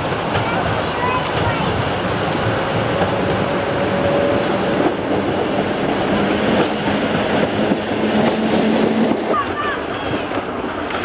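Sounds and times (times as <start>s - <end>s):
train running past: 0.0s - 11.0s.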